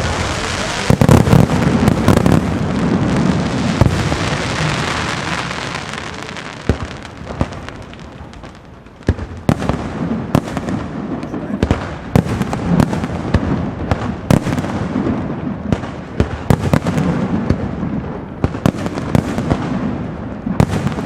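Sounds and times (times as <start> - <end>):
fireworks crackling and banging: 0.0 - 21.0.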